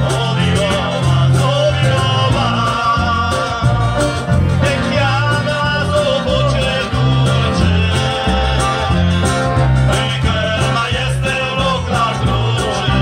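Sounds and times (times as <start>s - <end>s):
live accordion band music: 0.0s - 13.0s
steady bass beat: 0.0s - 13.0s.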